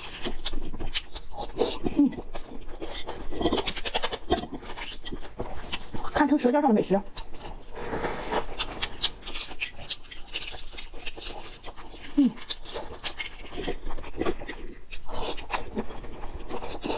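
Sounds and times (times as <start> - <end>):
eggshell crackling: 0.0 - 16.9.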